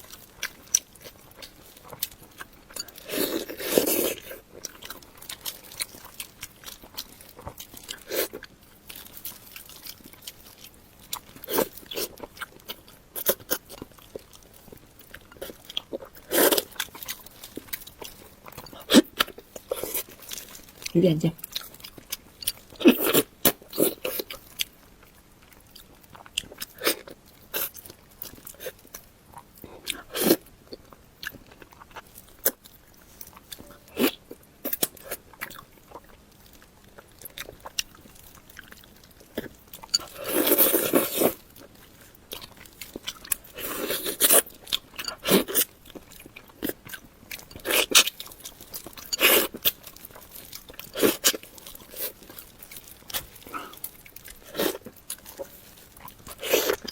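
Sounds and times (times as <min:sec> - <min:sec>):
wet chewing: 0:00.0 - 0:56.9.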